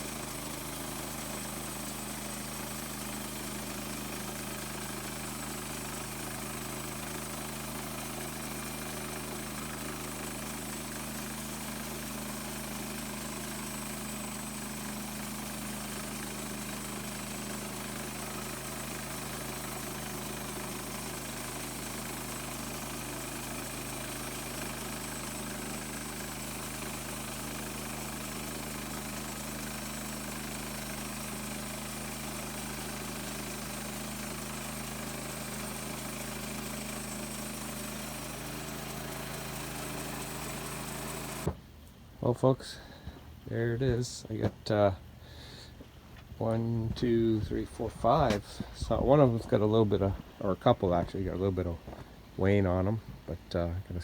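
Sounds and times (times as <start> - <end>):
sawmill gasoline engine running: 0.0 - 41.6, 42.2 - 54.0.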